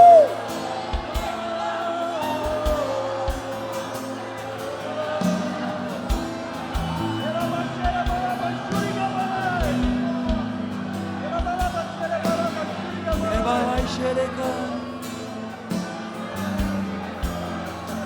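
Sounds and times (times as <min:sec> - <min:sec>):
wordless singing voices: 0:00.0 - 0:18.0
worship music chords: 0:00.0 - 0:18.0.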